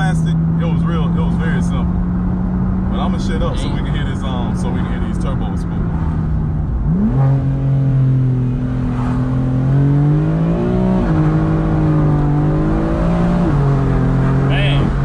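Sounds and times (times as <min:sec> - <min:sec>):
car engine pulling through gears: 0:00.0 - 0:15.0.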